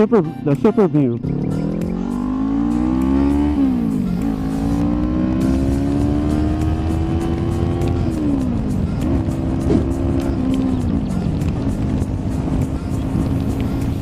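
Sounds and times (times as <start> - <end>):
wind and road rumble: 0.0 - 14.0
motorcycle engine accelerating: 1.2 - 14.0.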